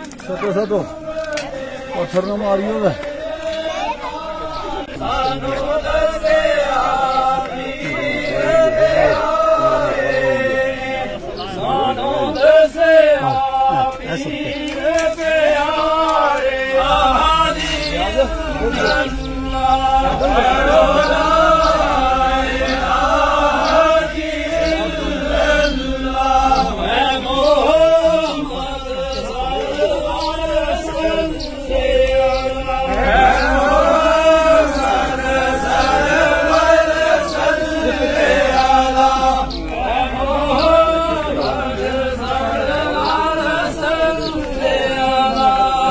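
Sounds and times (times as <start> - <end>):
men chanting in unison: 0.0 - 45.9.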